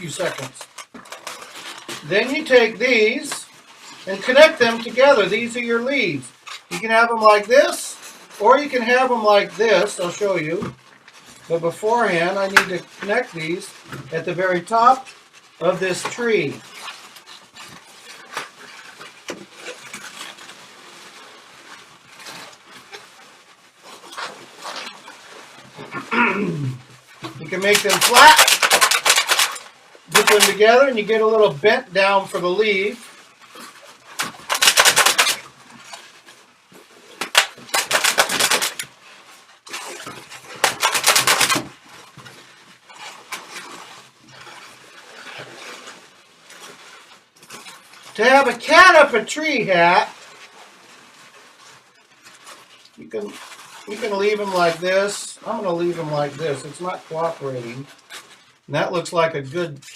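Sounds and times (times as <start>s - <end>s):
balloons squeaking and creaking: 0.0s - 59.9s.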